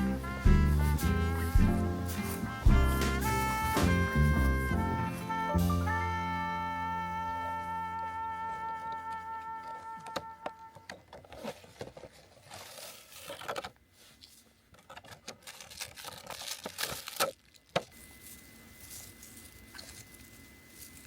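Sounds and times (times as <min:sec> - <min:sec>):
rustling and crinkling: 0:00.0 - 0:05.8, 0:07.9 - 0:21.0.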